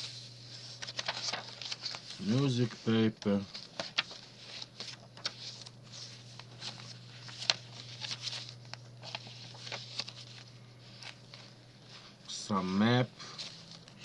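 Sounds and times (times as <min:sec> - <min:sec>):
paper pages rustling: 0:00.0 - 0:14.0.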